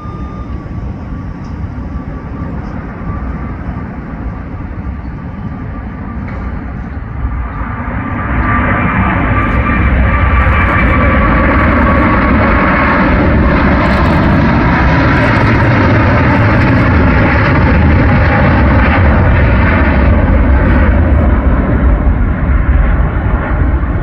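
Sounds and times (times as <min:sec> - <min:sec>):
faint high whine: 0:00.0 - 0:21.5
jet engines running: 0:00.0 - 0:24.0.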